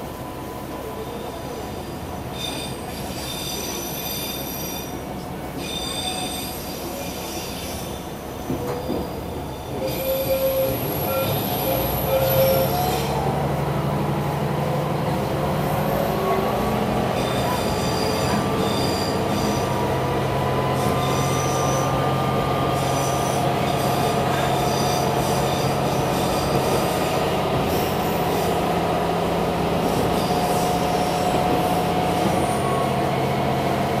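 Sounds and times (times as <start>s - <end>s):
railcar engine drone: 0.0s - 34.0s.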